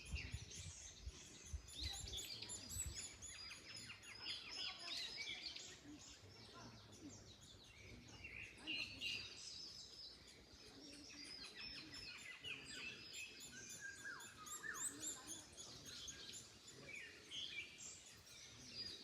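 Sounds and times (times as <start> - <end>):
birds chirping and calling: 0.0 - 19.0
faint wind in trees: 0.0 - 19.0.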